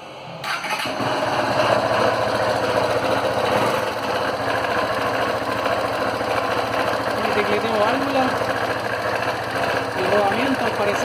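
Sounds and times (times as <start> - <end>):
motorcycle engine clattering: 0.4 - 11.0.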